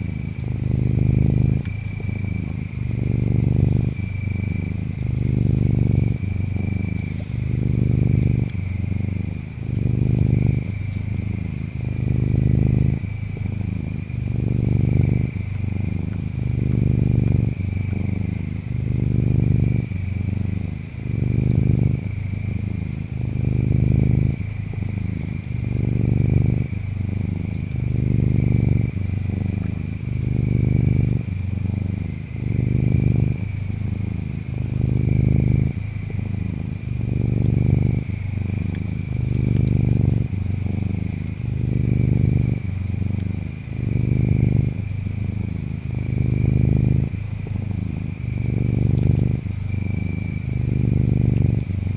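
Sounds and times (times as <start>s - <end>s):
cat purring: 0.0s - 51.9s
insects trilling: 0.0s - 51.9s.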